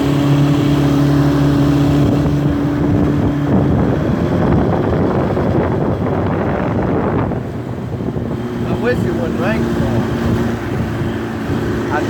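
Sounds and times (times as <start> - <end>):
two-stroke outboard motor running: 0.0 - 12.0
wind on microphone: 0.0 - 12.0.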